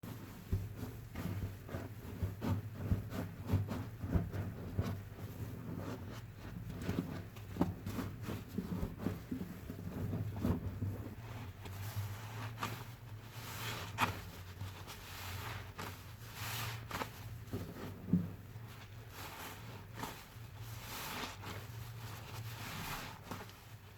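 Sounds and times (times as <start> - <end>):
wet sponge squelching: 0.1 - 23.9.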